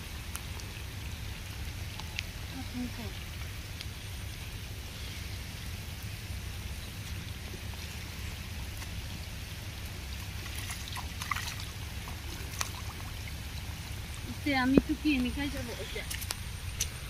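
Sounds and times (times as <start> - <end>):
small splashes in water: 0.0 - 17.0
water trickling: 0.0 - 17.0.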